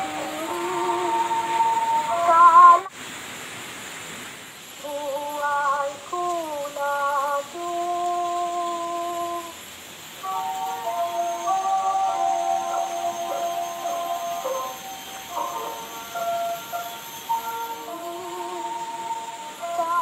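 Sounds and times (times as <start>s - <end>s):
woman singing wordless melody: 0.0s - 2.9s, 4.8s - 9.6s, 10.2s - 20.0s.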